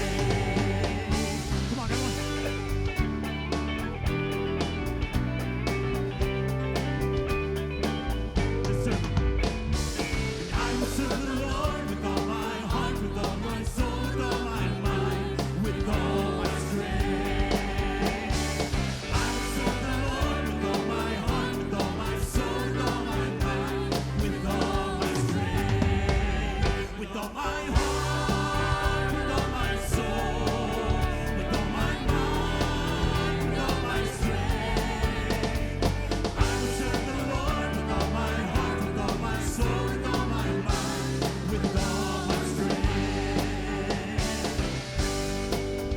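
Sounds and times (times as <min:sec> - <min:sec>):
voices singing: 0:00.0 - 0:07.1, 0:07.7 - 0:45.9
drums: 0:00.0 - 0:45.9
church band playing: 0:08.3 - 0:45.9.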